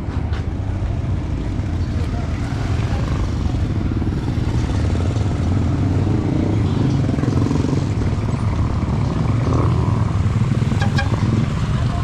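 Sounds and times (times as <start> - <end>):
motorcycle engine running: 1.1 - 12.0.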